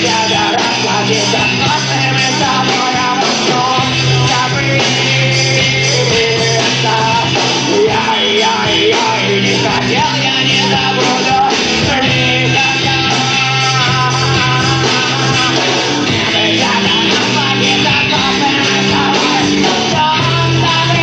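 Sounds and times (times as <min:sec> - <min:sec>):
person singing: 0:00.0 - 0:21.0
rock band playing live: 0:00.0 - 0:21.0.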